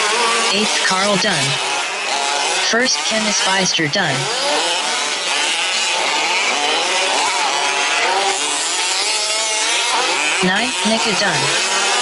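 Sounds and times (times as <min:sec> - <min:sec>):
small two-stroke engines revving: 0:00.0 - 0:12.0.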